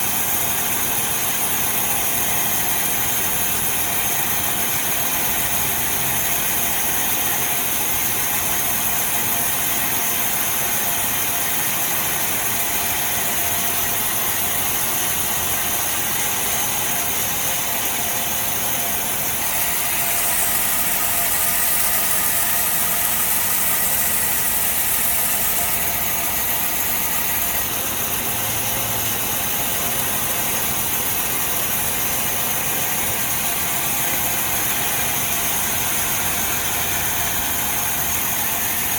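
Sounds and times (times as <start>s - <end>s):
sawmill machinery hum and whir: 0.0s - 38.9s.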